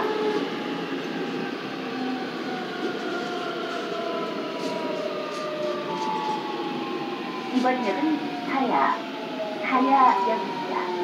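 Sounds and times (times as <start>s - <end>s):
subway train running rumble: 0.0s - 11.0s.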